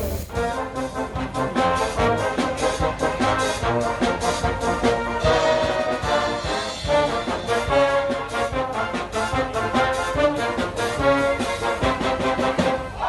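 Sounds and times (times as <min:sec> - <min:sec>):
brass-heavy music with steady beat: 0:00.0 - 0:12.8.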